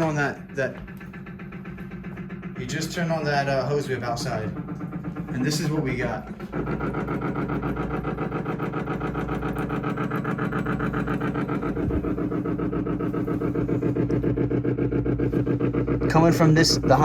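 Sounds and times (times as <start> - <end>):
pipe vibrating with buzzing hum: 0.0 - 17.0.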